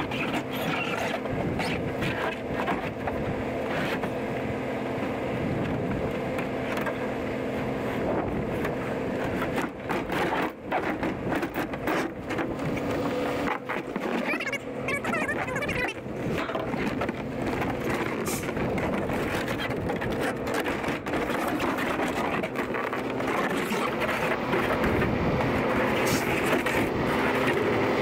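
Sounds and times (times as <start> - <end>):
engine hum: 0.0 - 28.0.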